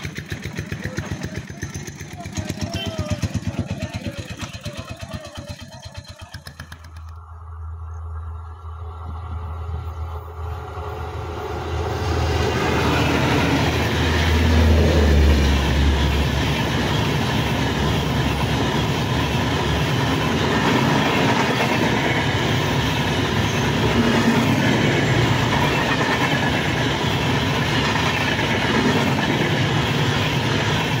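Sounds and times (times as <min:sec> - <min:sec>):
locomotive deep hum: 0:00.0 - 0:31.0
wheels rushing on rails: 0:00.0 - 0:31.0.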